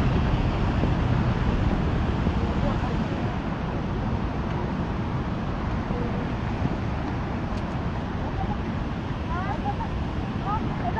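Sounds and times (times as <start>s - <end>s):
vehicle and road rumble: 0.0s - 10.9s.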